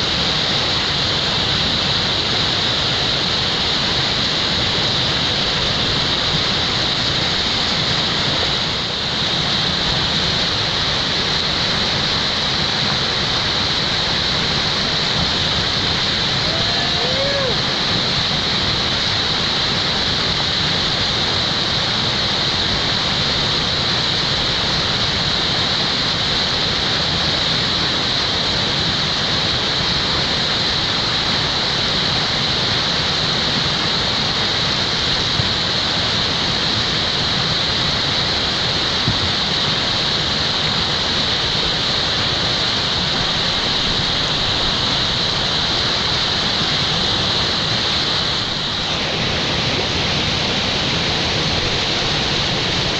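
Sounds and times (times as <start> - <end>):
whitewater roaring: 0.0 - 52.9.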